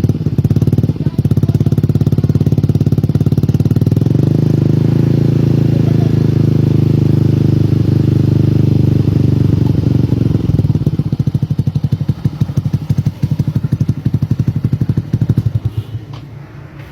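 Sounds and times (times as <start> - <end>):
scooter engine idling: 0.0 - 16.9.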